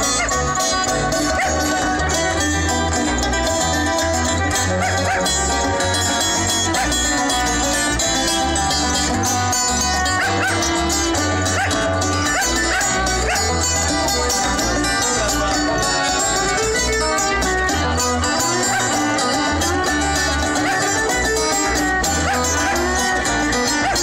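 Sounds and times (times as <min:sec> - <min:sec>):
acoustic bass guitar line: 0:00.0 - 0:24.0
acoustic guitar picking: 0:00.0 - 0:24.0
banjo picking: 0:00.0 - 0:24.0
fiddle melody with sliding notes: 0:00.0 - 0:24.0.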